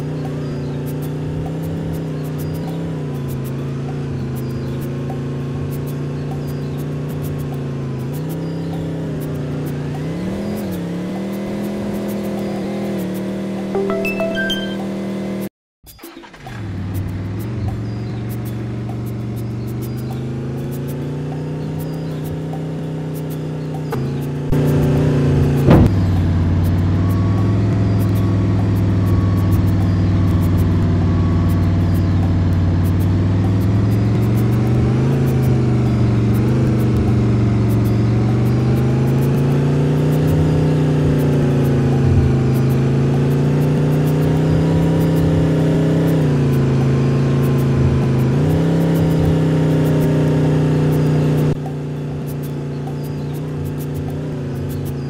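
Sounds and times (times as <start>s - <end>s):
bus engine running: 0.0s - 55.0s.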